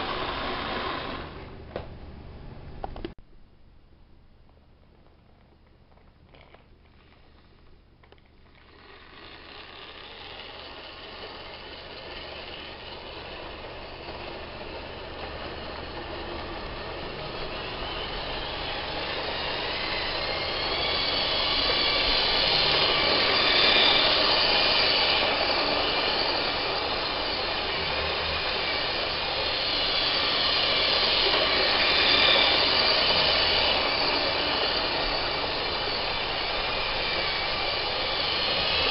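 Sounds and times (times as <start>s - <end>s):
electric motor hum: 0.0s - 1.6s, 8.6s - 38.9s
model train wheels on rails: 0.0s - 1.6s, 5.9s - 38.9s.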